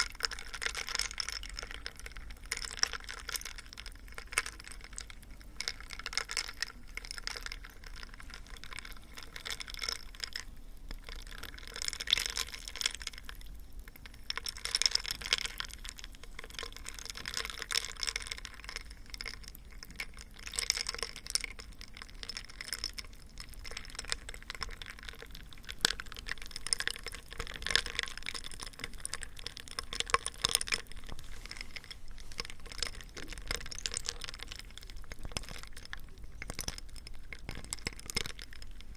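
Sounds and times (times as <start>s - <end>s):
small rapid clicks and crackles: 0.0s - 38.9s.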